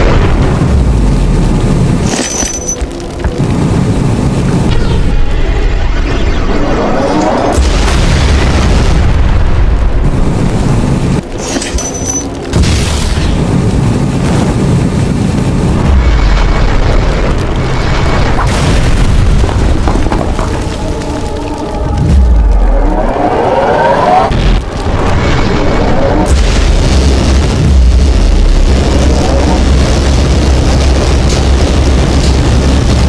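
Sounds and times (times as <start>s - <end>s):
deep booms and explosions: 0.0s - 33.0s.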